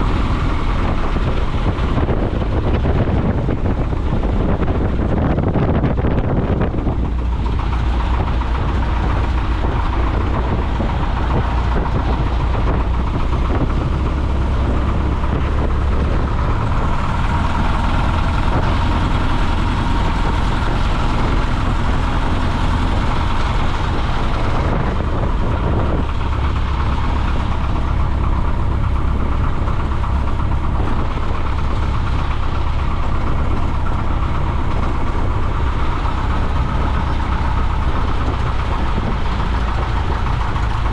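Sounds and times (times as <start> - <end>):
airplane engine droning: 0.0 - 40.9
rushing air: 0.0 - 40.9.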